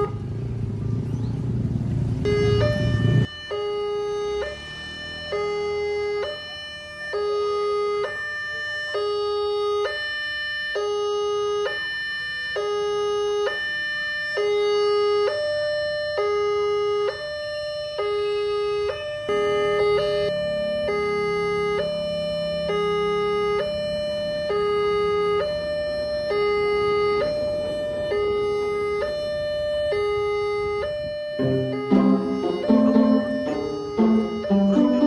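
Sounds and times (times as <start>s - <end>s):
low traffic noise: 0.0s - 35.0s
level crossing two-tone alarm: 2.2s - 35.0s.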